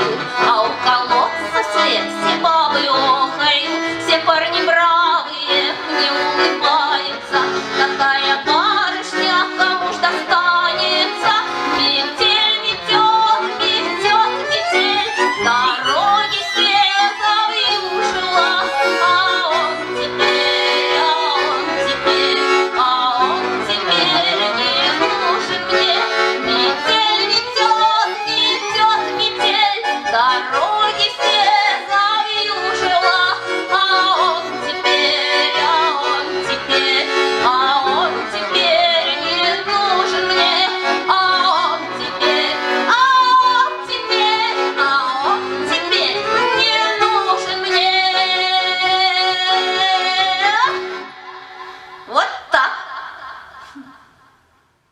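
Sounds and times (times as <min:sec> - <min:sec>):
accordion-led instrumental music: 0:00.0 - 0:52.2.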